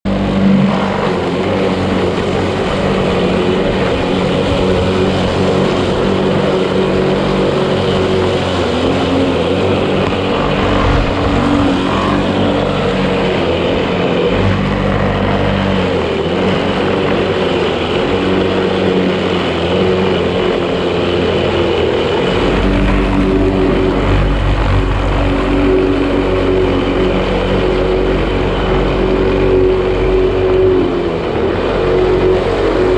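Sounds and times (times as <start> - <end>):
lawn mower cutting grass: 0.1 - 32.9.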